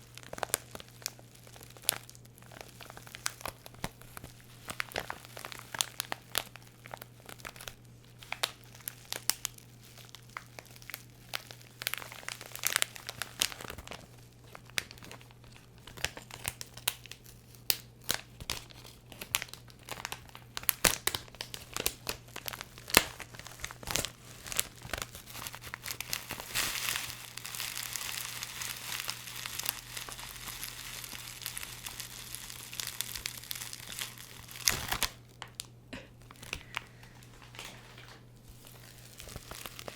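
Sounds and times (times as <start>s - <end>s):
packaging crinkling: 0.0s - 39.9s.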